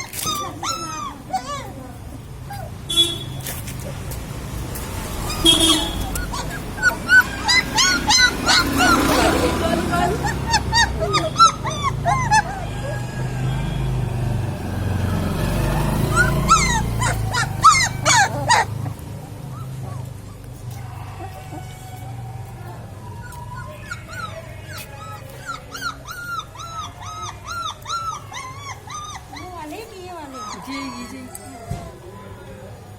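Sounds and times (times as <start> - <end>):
puppy whimpering: 0.0 - 2.8, 5.0 - 14.0, 14.9 - 32.1
street traffic: 0.0 - 32.9.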